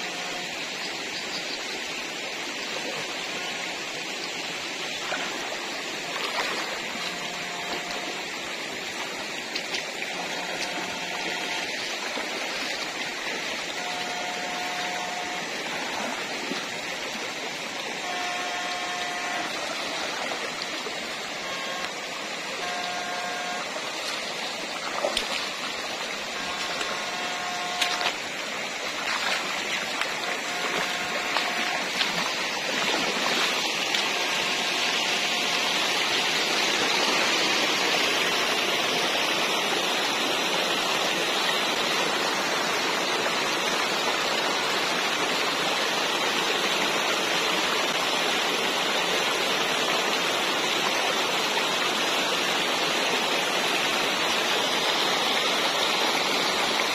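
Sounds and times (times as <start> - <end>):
stream rushing over stones: 0.0 - 56.9.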